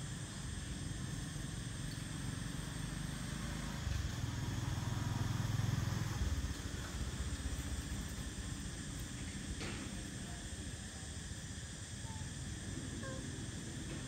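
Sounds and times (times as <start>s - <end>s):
motor vehicle engine rumble: 0.0s - 14.0s.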